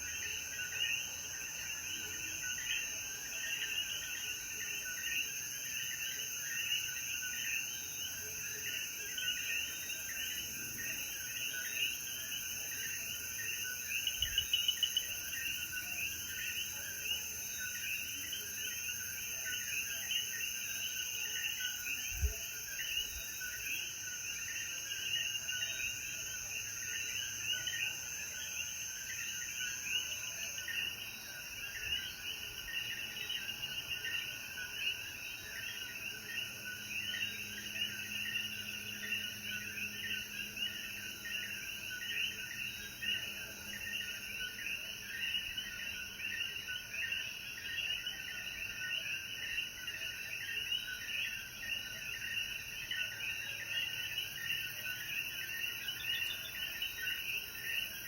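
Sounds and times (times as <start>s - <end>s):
frogs chirping: 0.0s - 58.0s
high insect drone: 0.1s - 58.0s.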